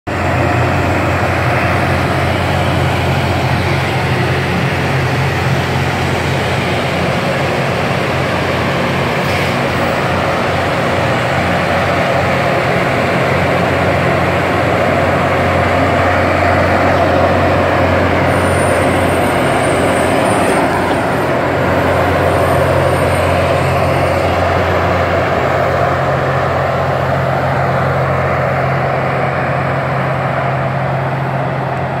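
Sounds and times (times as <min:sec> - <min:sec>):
low engine drone: 0:00.1 - 0:32.0
train passing: 0:00.1 - 0:32.0.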